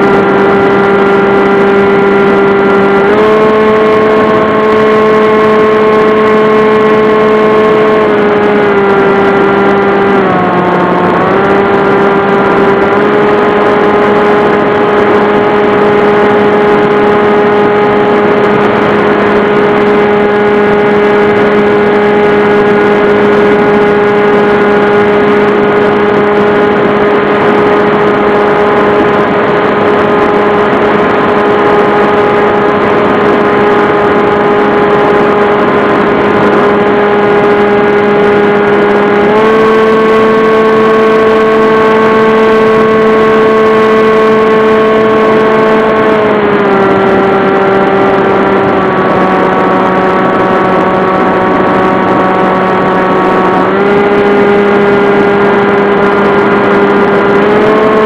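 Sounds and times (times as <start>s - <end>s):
model airplane motor whine: 0.0s - 58.0s.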